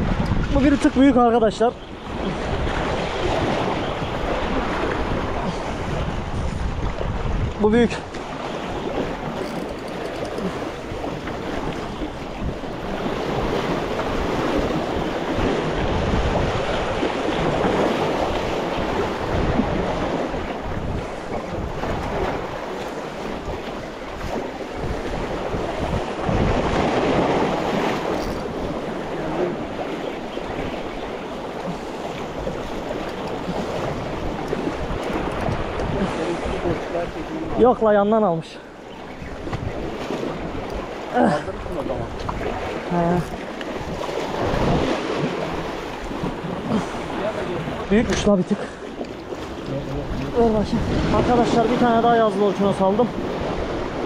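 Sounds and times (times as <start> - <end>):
waves washing against concrete: 0.0 - 54.0
wind buffeting microphone: 0.0 - 54.0.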